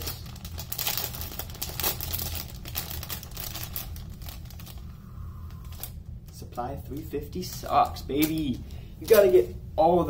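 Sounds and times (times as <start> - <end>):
plastic bag crinkling: 0.0 - 6.4, 7.0 - 9.5.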